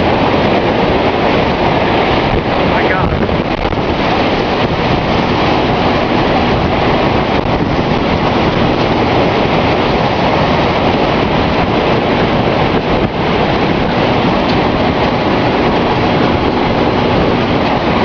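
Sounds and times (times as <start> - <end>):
wind blasting across microphone: 0.0 - 18.0.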